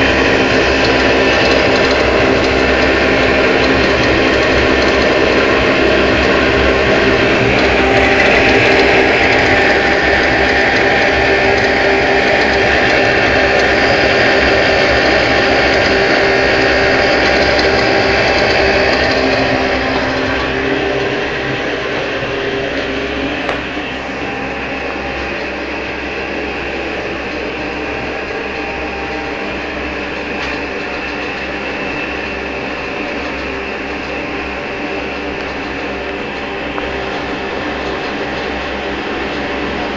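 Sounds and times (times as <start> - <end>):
heater fan and burner running: 0.0 - 39.9.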